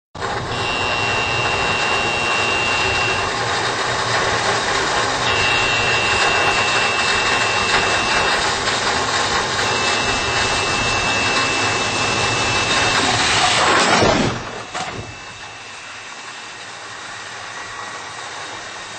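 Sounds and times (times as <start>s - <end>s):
loud rushing noise: 0.2s - 18.9s
high warning tone: 0.5s - 17.7s.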